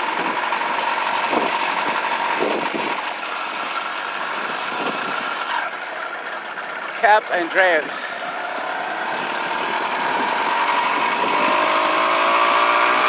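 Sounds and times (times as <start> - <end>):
small gas engine buzzing: 0.0 - 13.0
wind and road noise: 0.0 - 13.0.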